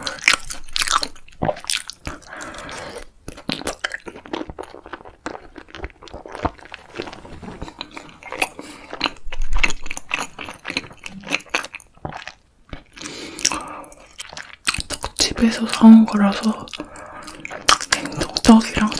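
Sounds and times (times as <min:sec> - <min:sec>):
food being chewed: 0:00.0 - 0:18.9.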